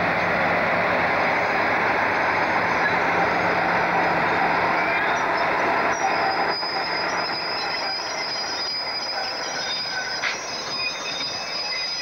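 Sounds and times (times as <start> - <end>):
diesel locomotive engine drone: 0.0 - 12.0
high wheel squeal: 1.4 - 12.0.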